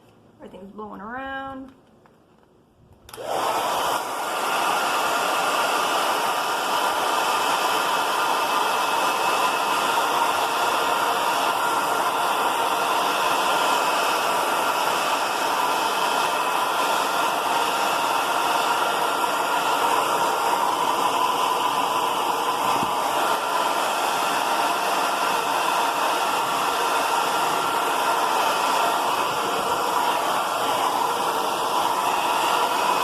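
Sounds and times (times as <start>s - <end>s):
hair dryer running: 3.1s - 33.0s.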